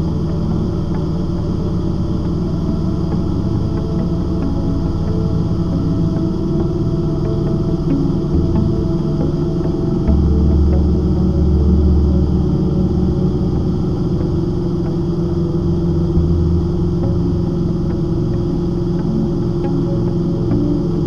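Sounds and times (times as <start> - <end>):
aircraft engine drone in cabin: 0.0 - 21.0
sustained low notes: 0.0 - 21.0.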